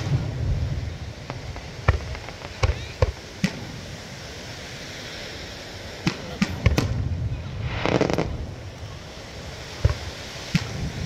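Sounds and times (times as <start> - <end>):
fireworks exploding: 0.0 - 4.4, 5.8 - 11.0
fireworks crackling: 0.0 - 11.0.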